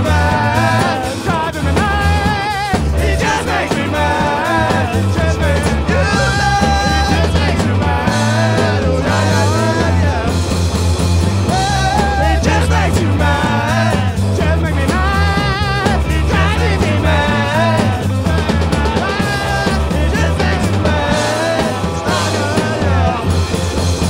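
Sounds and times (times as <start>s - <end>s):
rock band playing live: 0.0s - 24.0s
wavering melodic lead line: 0.0s - 24.0s.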